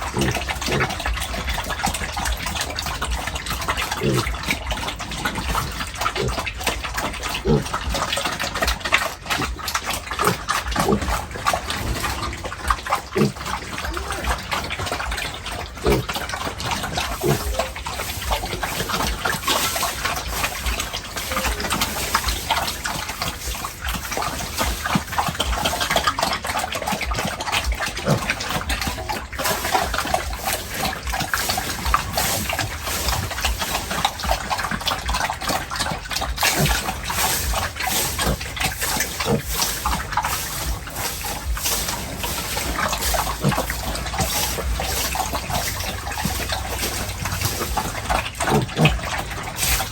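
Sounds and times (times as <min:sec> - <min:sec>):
pigs: 0:00.0 - 0:49.9
water splashing and sloshing: 0:00.0 - 0:49.9.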